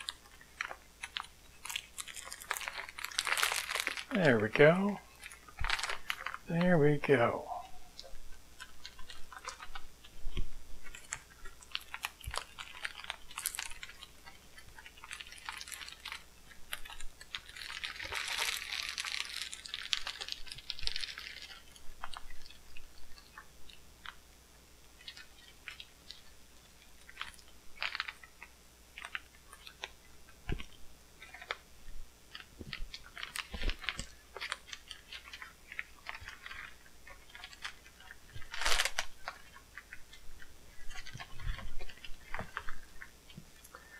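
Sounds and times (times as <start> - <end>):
plastic wrapping crinkling: 0.0 - 24.2, 24.9 - 43.9.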